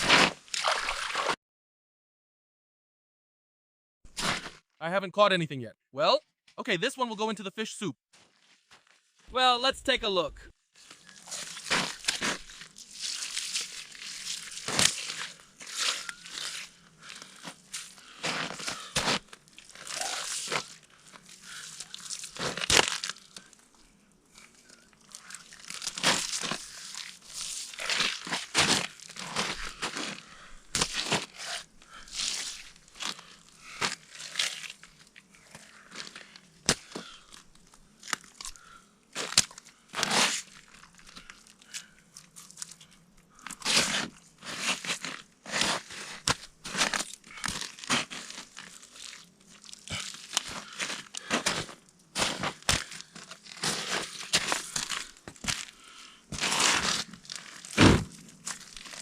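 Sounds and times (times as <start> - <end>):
crunching and scraping of snow and ice: 0.0 - 1.4, 4.1 - 4.7, 8.1 - 9.3, 10.0 - 59.0.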